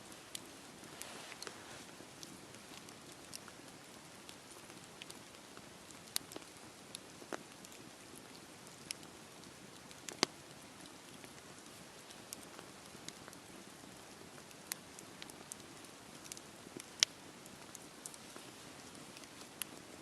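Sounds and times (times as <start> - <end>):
campfire crackling and popping: 0.0 - 20.0
rain hiss: 0.0 - 20.0.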